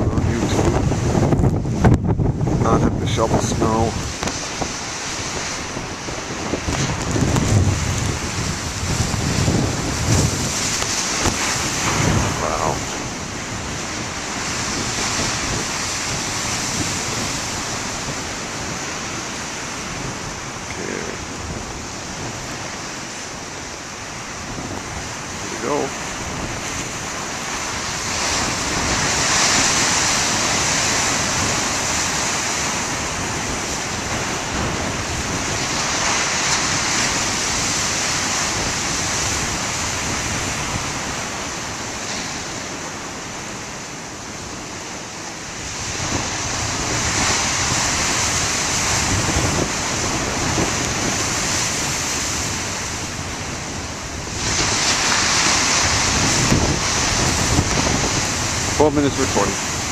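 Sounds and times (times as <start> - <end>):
storm surf breaking on rocks: 0.0 - 59.9
wind buffeting microphone: 0.0 - 59.9.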